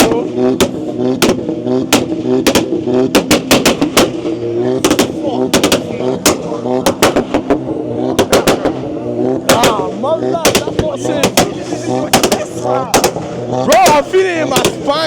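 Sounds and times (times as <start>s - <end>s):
car engine revving: 0.0s - 15.0s
exhaust pops and bangs: 0.0s - 15.0s.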